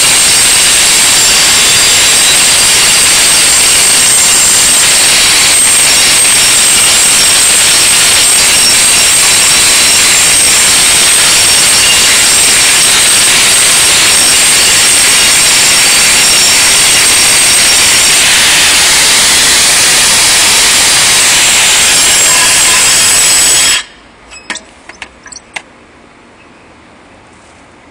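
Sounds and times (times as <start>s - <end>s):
angle grinder grinding metal: 0.0s - 23.8s.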